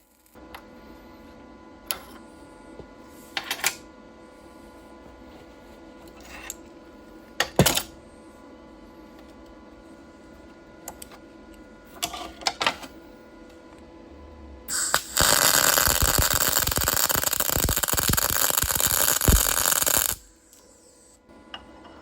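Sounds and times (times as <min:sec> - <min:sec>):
shop hum with fixed tones: 0:00.0 - 0:22.0.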